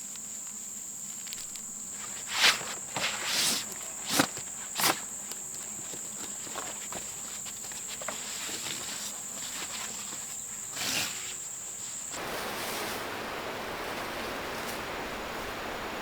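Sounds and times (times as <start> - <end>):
dense steady hiss: 0.0 - 16.0
high insect drone: 0.0 - 16.0
rustle: 0.0 - 16.0.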